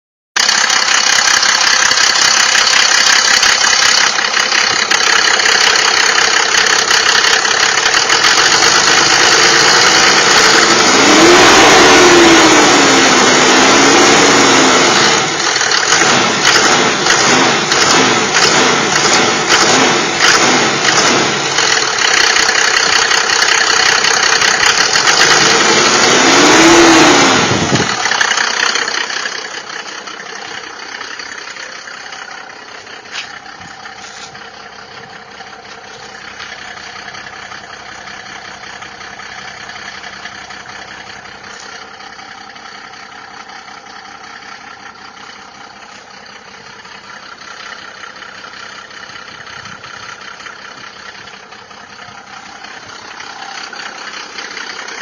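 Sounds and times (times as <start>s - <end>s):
diesel engine knocking: 0.4s - 55.0s
engine revving: 0.4s - 55.0s.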